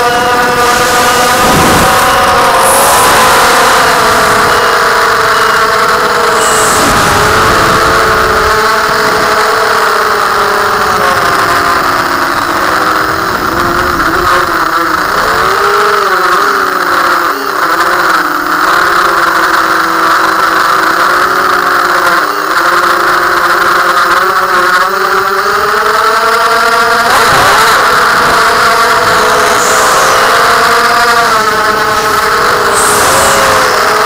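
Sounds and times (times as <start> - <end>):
quadcopter motors whining: 0.0 - 34.0.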